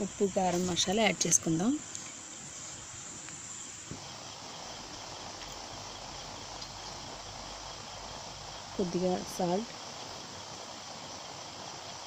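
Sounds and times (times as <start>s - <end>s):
roe sizzling in oil: 0.0s - 12.0s.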